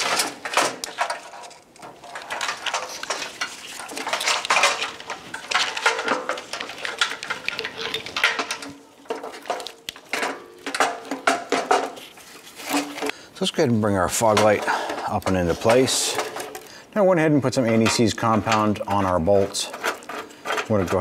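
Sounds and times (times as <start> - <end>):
plastic parts clicking and clattering: 0.0 - 13.2, 14.0 - 16.8, 17.5 - 21.0.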